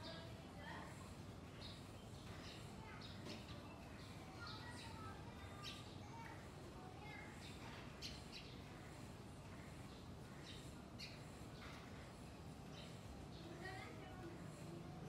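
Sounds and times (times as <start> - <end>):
small birds chirping: 0.0 - 15.0
steady background hum: 0.0 - 15.0.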